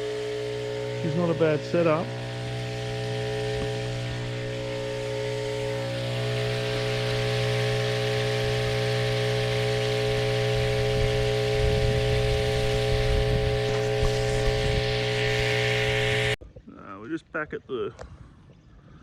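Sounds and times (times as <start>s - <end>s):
bait tank pump humming: 0.0s - 16.4s.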